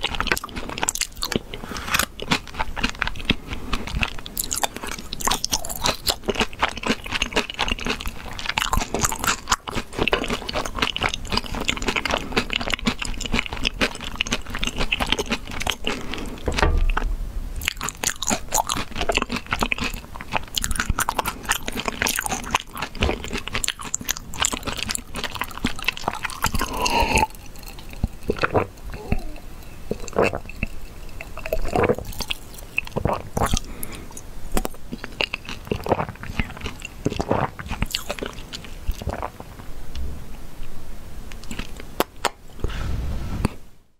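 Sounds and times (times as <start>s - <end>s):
crunching crisp food: 0.0s - 39.4s.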